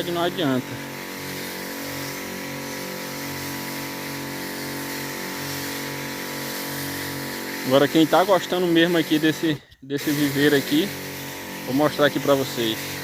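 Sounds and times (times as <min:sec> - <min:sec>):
small engine humming: 0:00.0 - 0:13.0.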